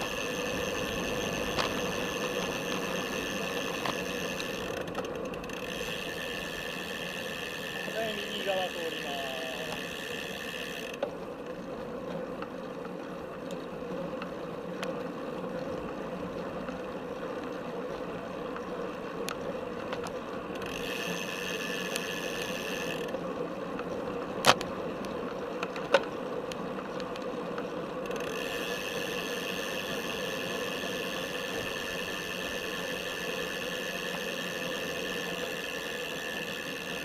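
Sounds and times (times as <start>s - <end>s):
bicycle frame rattles: 0.0s - 37.0s
bicycle tyre and drivetrain noise: 0.0s - 37.0s.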